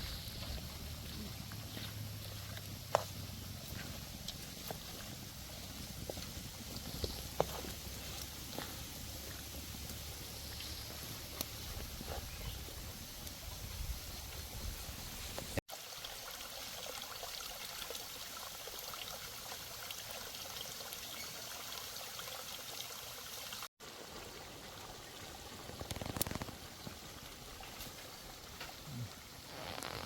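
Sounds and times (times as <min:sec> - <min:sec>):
trickling running water: 0:00.0 - 0:30.0.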